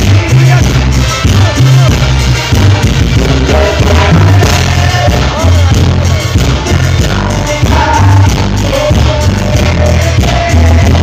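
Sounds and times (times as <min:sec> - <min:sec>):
live band playing through speakers: 0:00.0 - 0:11.0
pulsing bass line: 0:00.0 - 0:11.0.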